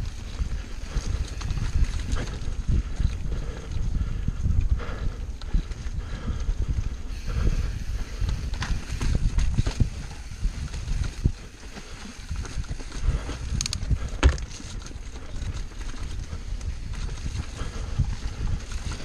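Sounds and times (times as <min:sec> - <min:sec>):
bike rattling and knocking: 0:00.0 - 0:19.0
bike tyres rumbling over dirt: 0:00.0 - 0:19.0.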